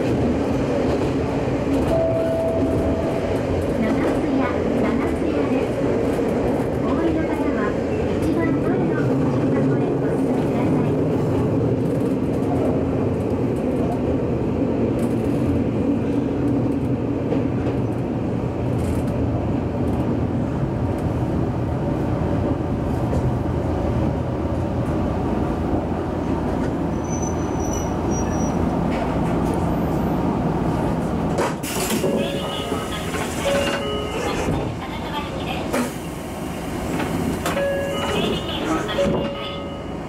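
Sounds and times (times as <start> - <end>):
train wheels on rail: 0.0 - 40.0.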